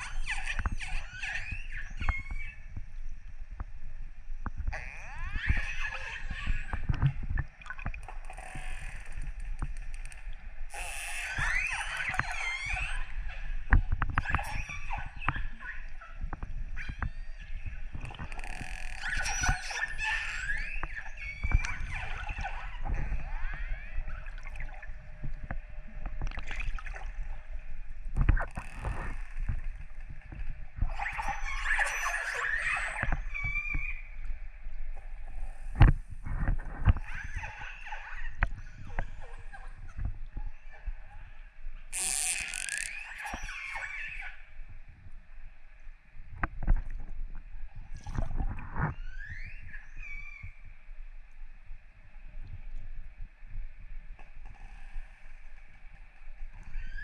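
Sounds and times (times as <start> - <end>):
orca calls and whistles underwater: 0.0 - 2.8, 4.6 - 44.9, 47.8 - 51.0, 54.6 - 57.0.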